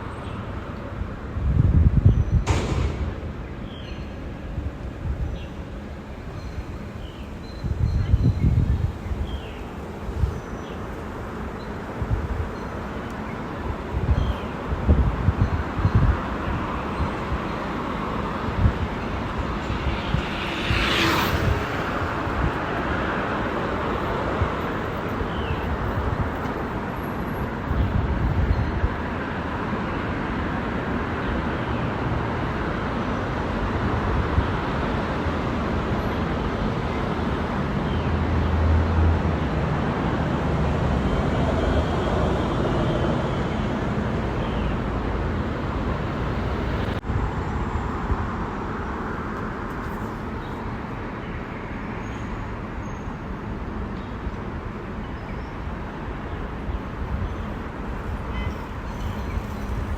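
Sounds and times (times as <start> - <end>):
road noise from bicycle: 0.0 - 59.9
motor traffic passing: 2.8 - 51.2.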